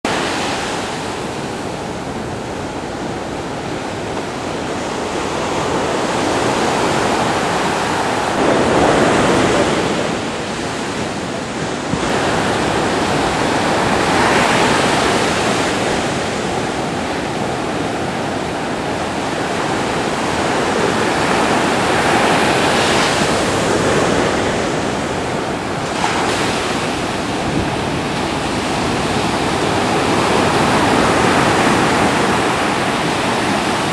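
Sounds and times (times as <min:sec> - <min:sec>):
ocean waves crashing on beach: 0:00.1 - 0:33.9.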